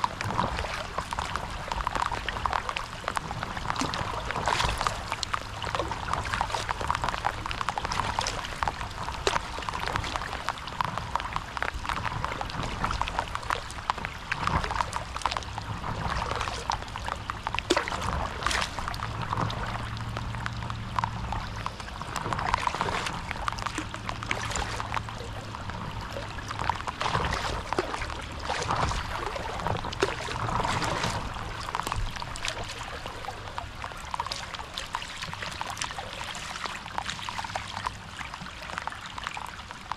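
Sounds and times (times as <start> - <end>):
paddle splashing in water: 0.0 - 39.9
patter of small ticks: 0.0 - 39.9.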